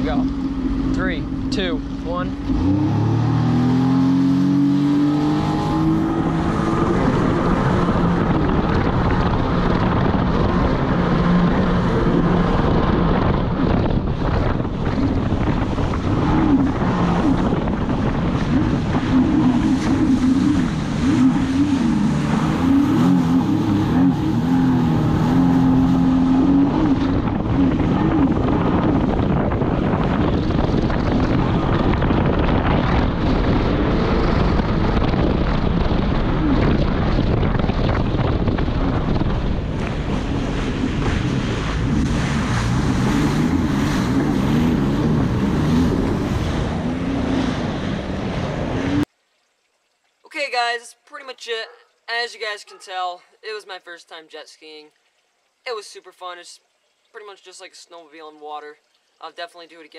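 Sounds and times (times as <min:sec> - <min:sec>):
jet ski engine at full throttle: 0:00.0 - 0:49.1
wind and water rushing: 0:00.0 - 0:59.9.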